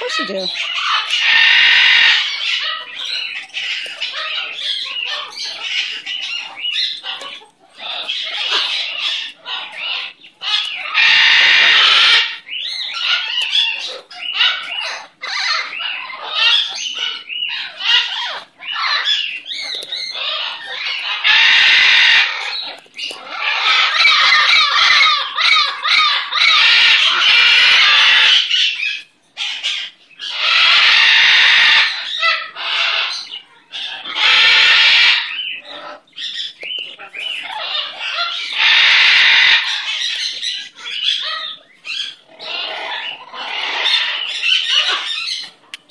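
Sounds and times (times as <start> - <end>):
macaw chattering calls: 0.0 - 45.9.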